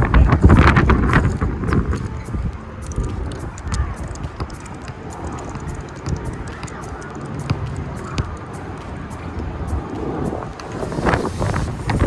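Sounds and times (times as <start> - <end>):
wind buffeting microphone: 0.0 - 7.0, 7.7 - 12.0.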